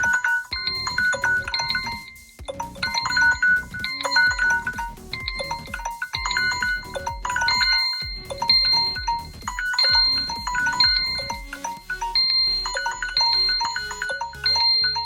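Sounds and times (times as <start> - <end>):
bell-like alarm melody: 0.0 - 15.0.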